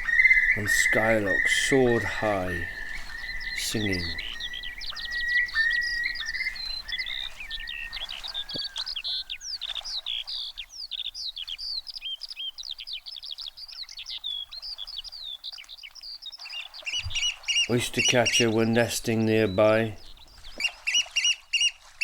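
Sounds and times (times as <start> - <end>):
lower steady bird trill: 0.0 - 22.0
skylark warbling and trilling: 0.0 - 22.0.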